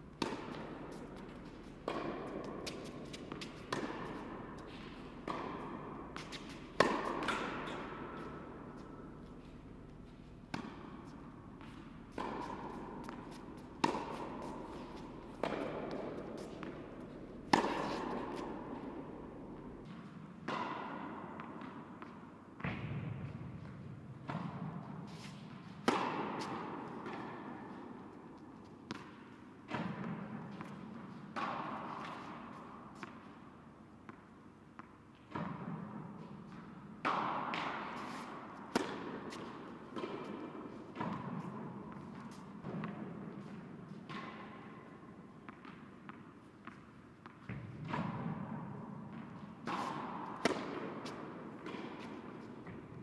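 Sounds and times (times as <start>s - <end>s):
tennis ball bouncing on court: 0.1s - 53.0s
tennis ball hit by racket: 0.2s - 27.9s, 28.8s - 33.4s, 34.0s - 53.0s.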